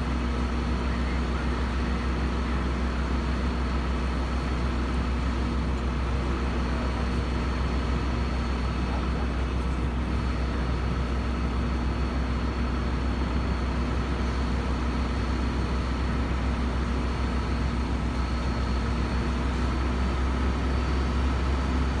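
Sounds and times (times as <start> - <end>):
fire engine pump drone: 0.0 - 22.0.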